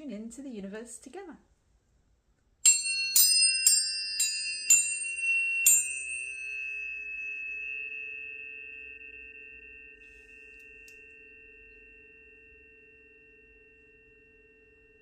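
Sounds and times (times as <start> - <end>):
tuning forks ringing: 2.6 - 15.0.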